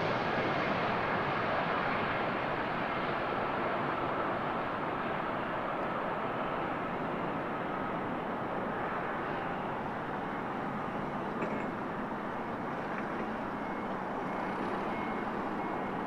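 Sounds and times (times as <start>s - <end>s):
distant jet engines: 0.0s - 16.0s.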